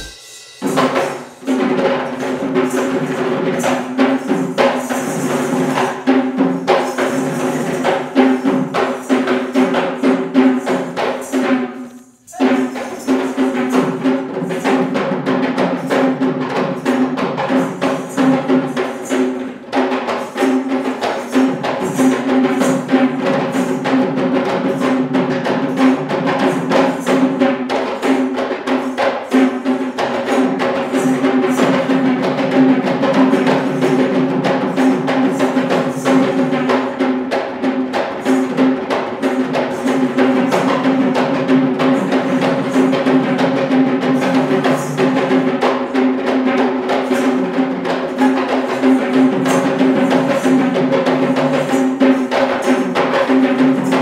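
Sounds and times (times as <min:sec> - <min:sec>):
hand drums in fast rhythm: 0:00.0 - 0:54.0.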